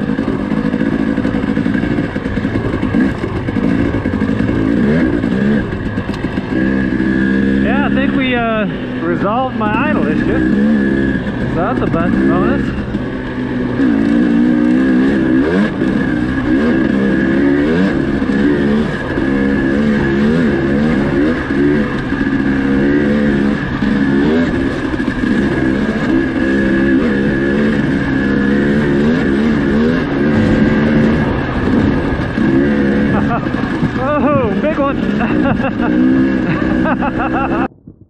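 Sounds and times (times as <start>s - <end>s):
dirt bike engine revving: 0.0s - 37.7s.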